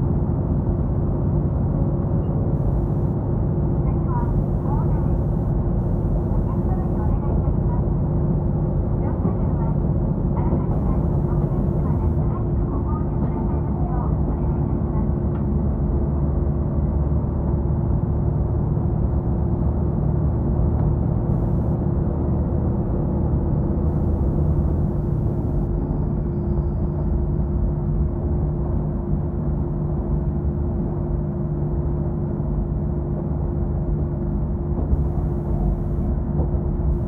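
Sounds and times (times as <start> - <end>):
railcar engine drone: 0.0 - 37.0.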